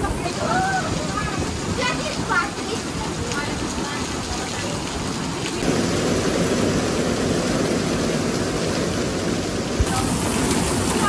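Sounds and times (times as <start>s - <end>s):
heavy rain on street and cars: 0.0s - 11.0s.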